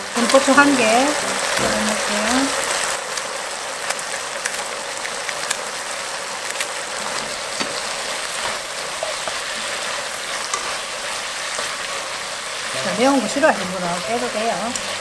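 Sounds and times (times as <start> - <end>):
food sizzling in bubbling sauce: 0.0 - 15.0.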